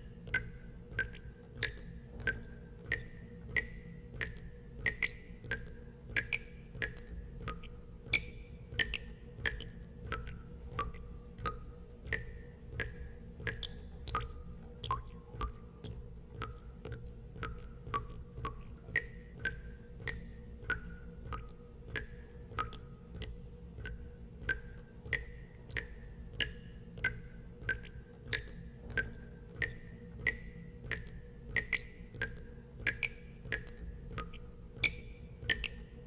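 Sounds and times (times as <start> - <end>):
water drops plinking into water: 0.2 - 36.0.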